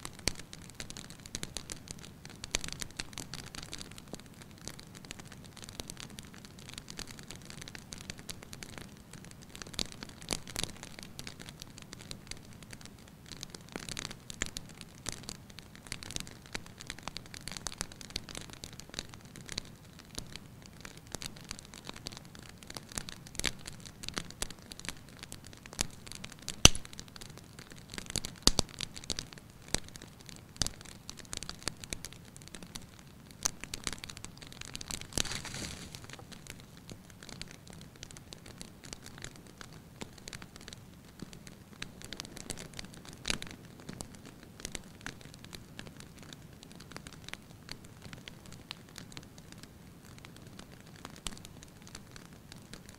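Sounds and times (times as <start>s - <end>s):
soft hiss: 0.0s - 46.6s
wood fire crackling: 0.0s - 52.9s.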